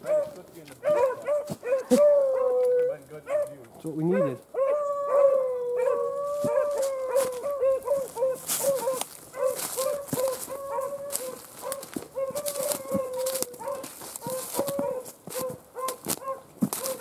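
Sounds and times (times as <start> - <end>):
beagles baying: 0.0 - 17.0
brush crackling: 0.0 - 17.0.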